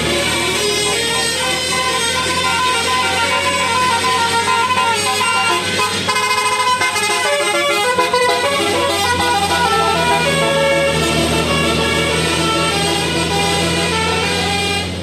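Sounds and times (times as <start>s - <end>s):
bus engine hum: 0.0s - 15.0s
multi-tone bus horn tune: 0.0s - 15.0s.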